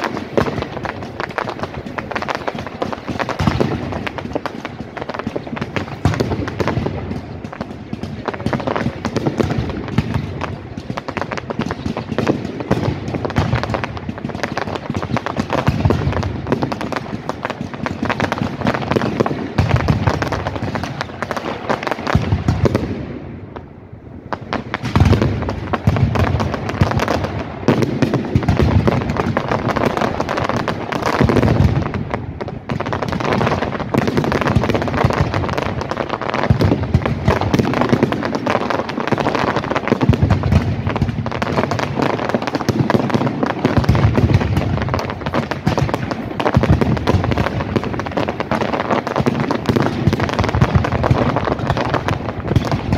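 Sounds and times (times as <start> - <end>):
deep firework booms: 0.0 - 52.9
fireworks crackling and popping: 0.0 - 52.9.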